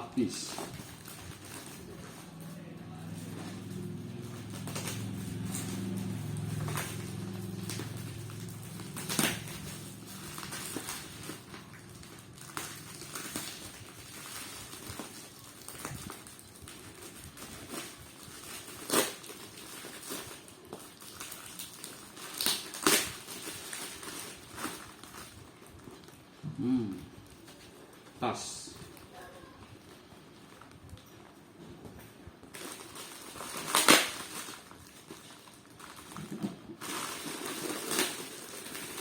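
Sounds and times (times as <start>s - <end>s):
sharp packaging crackles: 0.0s - 31.2s, 32.4s - 39.0s
packaging rustling and crinkling: 0.0s - 39.0s.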